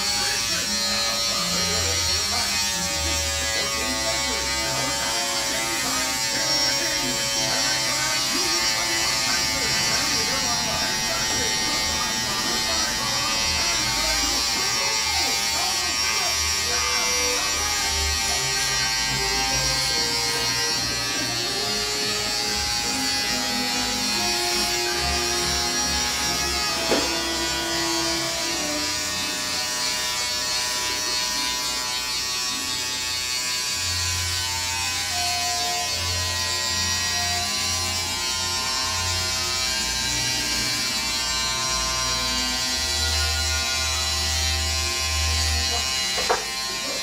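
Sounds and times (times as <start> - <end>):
electric hair clippers buzzing: 0.0 - 47.0.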